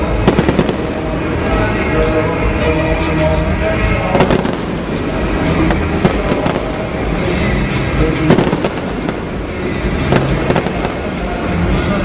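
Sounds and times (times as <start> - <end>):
fireworks bursting bangs: 0.0 - 1.8, 3.9 - 12.0
music playing: 0.0 - 12.0.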